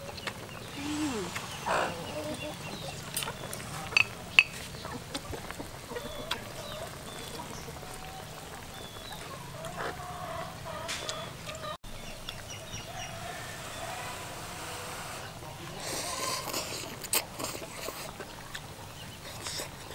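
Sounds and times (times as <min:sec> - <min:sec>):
chicken clucking: 0:00.0 - 0:19.2.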